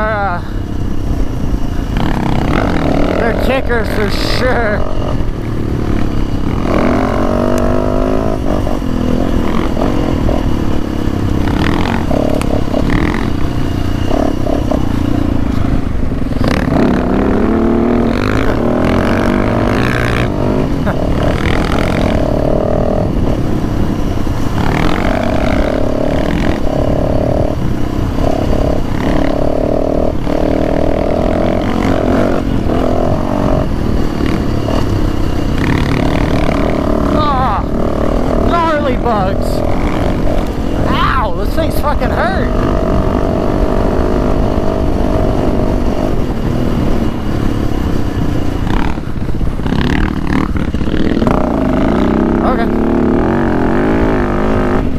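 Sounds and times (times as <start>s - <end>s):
dirt bike engine revving: 0.0s - 54.9s
wind noise on microphone: 0.0s - 54.9s.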